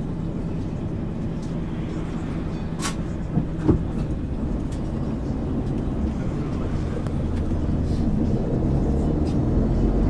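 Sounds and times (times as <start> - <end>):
bus body rattles: 0.0 - 8.3
bus diesel engine drone: 0.0 - 10.0
road noise: 0.0 - 10.0.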